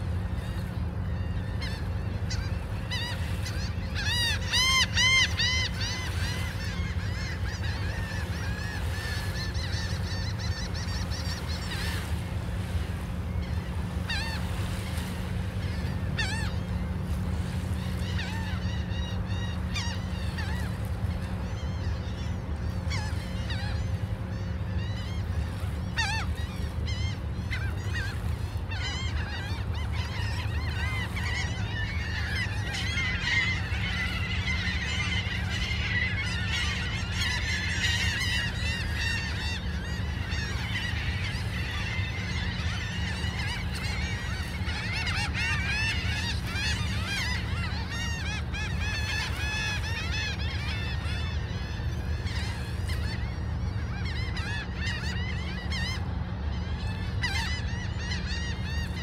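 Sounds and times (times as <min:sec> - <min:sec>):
gulls calling: 0:00.0 - 0:59.0.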